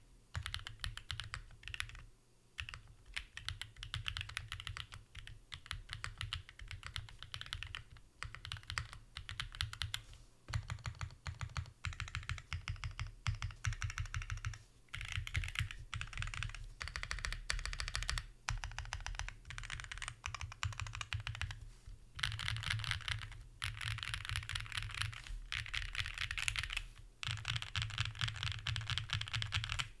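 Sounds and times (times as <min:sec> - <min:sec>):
mechanical keyboard typing: 0:00.3 - 0:02.0, 0:02.6 - 0:21.6, 0:22.2 - 0:30.0.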